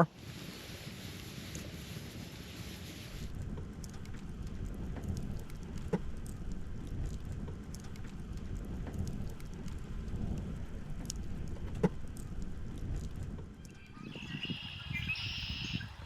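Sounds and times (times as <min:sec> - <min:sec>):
campfire crackling: 0:00.0 - 0:16.0
low rumble of campfire: 0:00.0 - 0:16.0.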